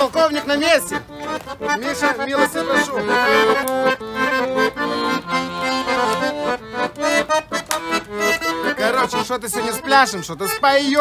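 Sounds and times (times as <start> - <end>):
piano accordion playing a tune: 0.0 - 11.0.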